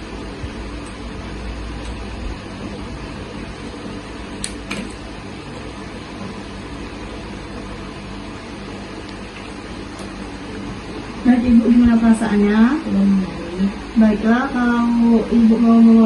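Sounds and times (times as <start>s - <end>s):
room background hum: 0.0s - 16.0s.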